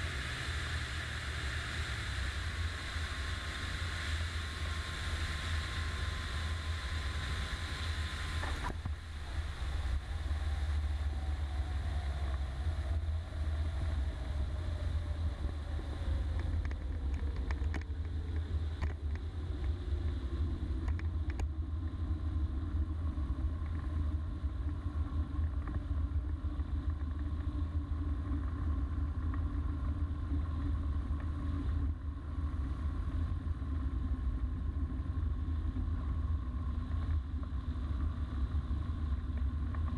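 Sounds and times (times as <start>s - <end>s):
light aircraft engine and propeller: 0.0s - 39.9s
wind rumble on microphone: 0.0s - 39.9s.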